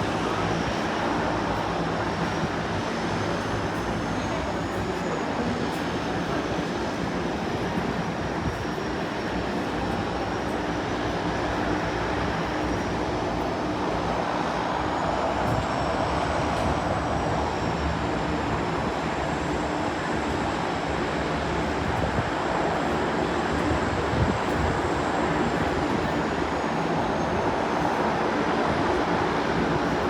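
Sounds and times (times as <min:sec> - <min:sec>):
seaplane engine drone: 0:00.0 - 0:30.0.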